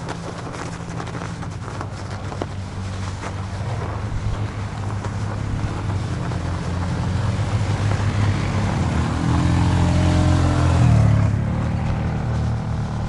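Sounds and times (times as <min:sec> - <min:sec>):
quad bike engines: 0:00.0 - 0:13.0.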